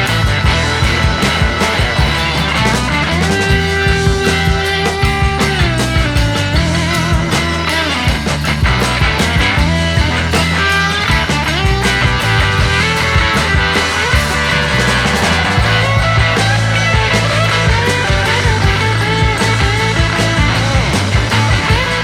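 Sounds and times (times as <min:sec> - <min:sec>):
rock music with electric guitar: 0:00.0 - 0:22.0.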